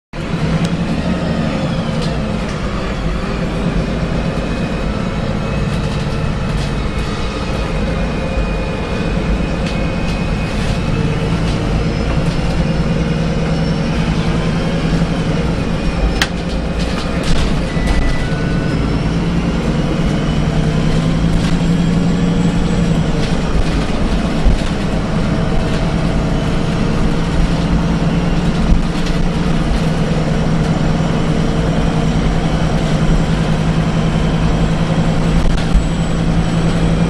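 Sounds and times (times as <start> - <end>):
bus engine running with whine: 0.1 - 37.0.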